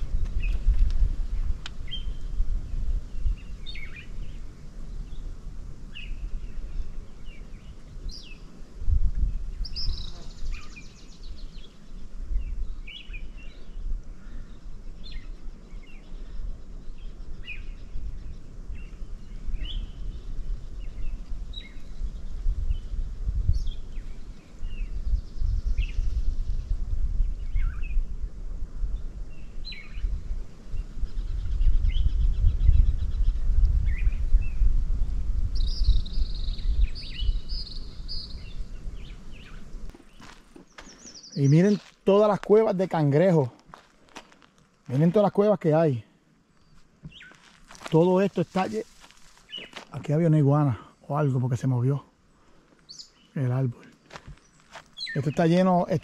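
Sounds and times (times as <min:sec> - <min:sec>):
birds chirping: 0:00.0 - 0:34.7, 0:35.4 - 0:56.0.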